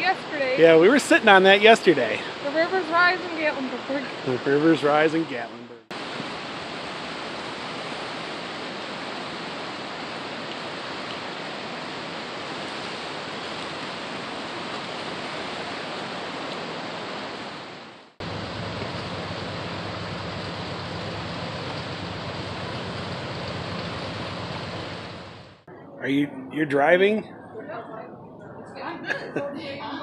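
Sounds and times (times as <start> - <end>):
fast river rushing: 0.0 - 25.6.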